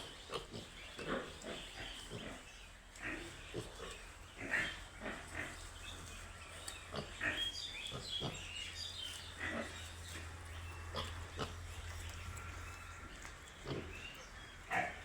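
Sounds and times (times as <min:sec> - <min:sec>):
piglets grunting and squealing: 0:00.0 - 0:15.0.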